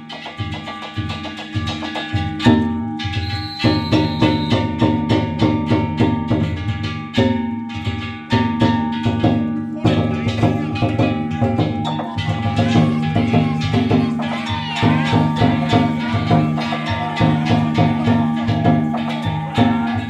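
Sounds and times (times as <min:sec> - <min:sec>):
hand gongs ringing: 0:00.0 - 0:20.0
taiko drums beating: 0:00.0 - 0:20.0.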